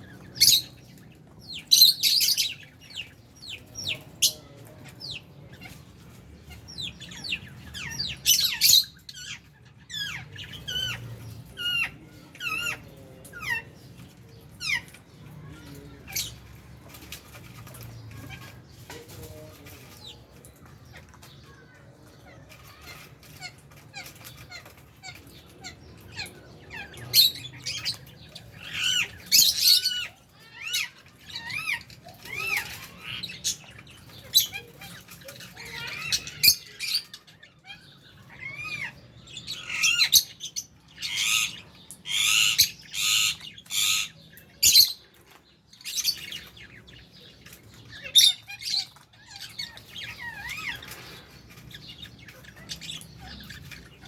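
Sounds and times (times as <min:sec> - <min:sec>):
parrots squawking and chirping: 0:00.0 - 0:54.0.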